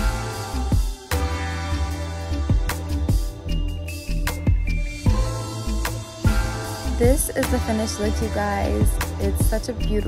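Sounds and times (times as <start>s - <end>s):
music with sustained tones: 0.0s - 10.0s.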